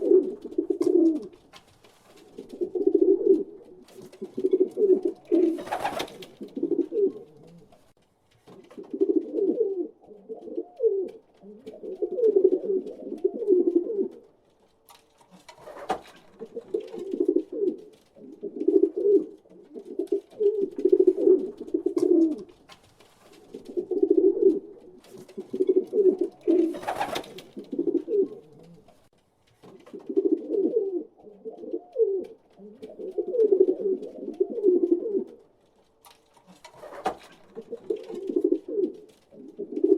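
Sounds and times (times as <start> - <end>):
pigeons cooing: 0.0 - 1.5, 2.2 - 7.8, 8.7 - 14.3, 15.6 - 22.6, 23.4 - 29.0, 29.8 - 35.4, 36.7 - 39.9.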